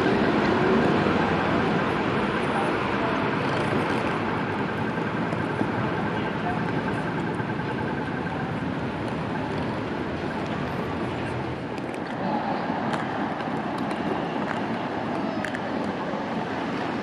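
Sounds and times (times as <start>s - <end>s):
distant traffic: 0.0s - 17.0s.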